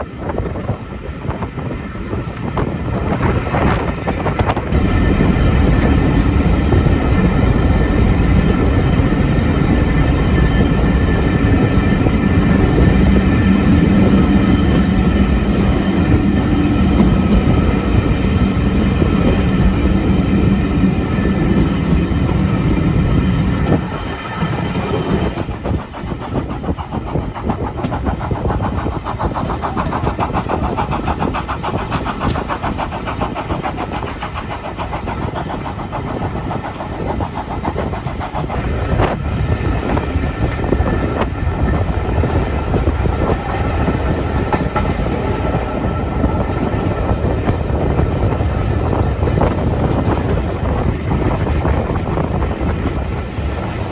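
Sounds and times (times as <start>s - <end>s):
train running: 0.0s - 53.9s.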